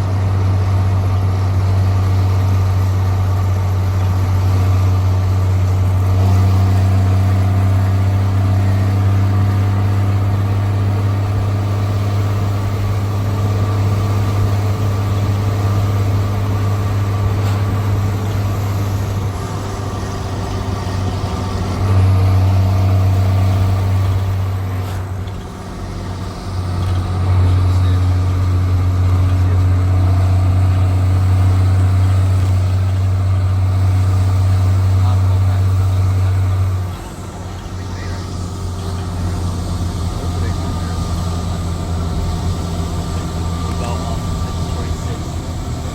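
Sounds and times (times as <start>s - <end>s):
diesel engine deep exhaust: 0.0s - 45.9s.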